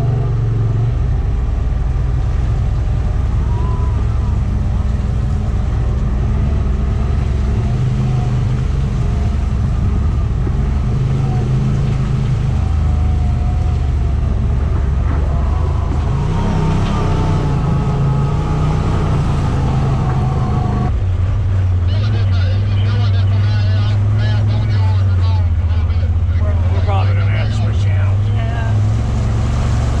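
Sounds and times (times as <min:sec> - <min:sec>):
utility vehicle engine running: 0:00.0 - 0:30.0.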